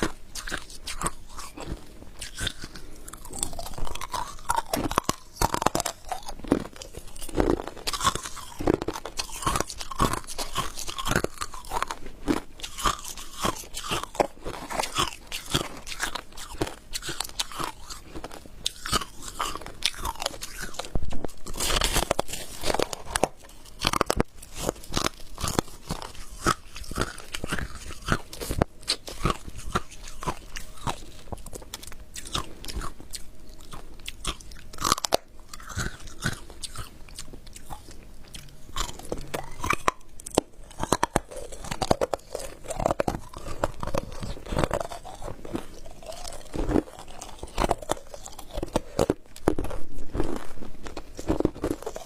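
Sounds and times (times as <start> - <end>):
ice being chewed crunching: 0.0 - 52.0.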